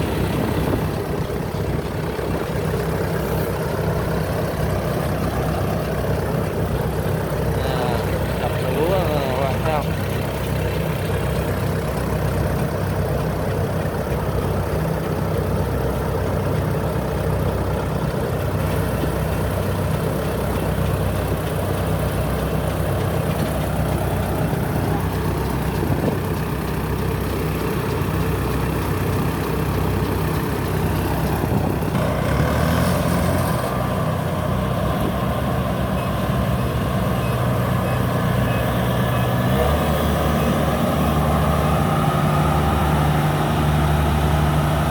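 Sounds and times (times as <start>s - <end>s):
combine harvester droning: 0.0s - 44.9s.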